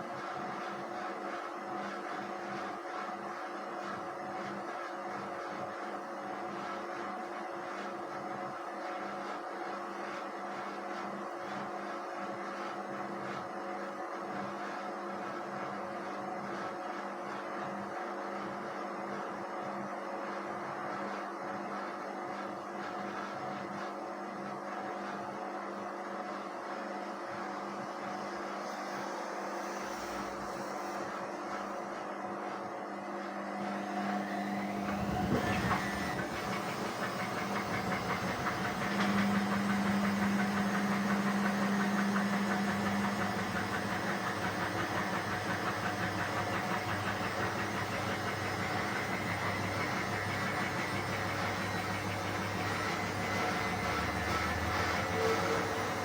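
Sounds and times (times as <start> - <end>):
washing machine hum: 0.0 - 56.0.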